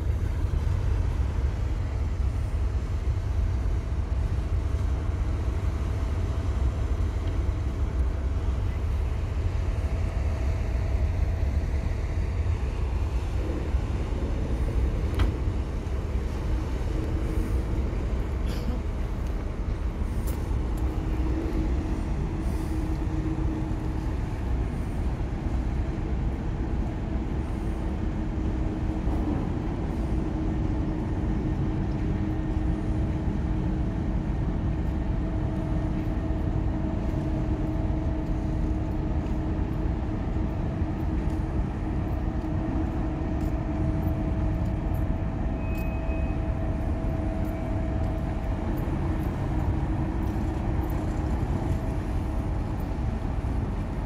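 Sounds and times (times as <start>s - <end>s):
droning hum: 0.0s - 54.0s
ship engines rumbling: 0.0s - 54.0s.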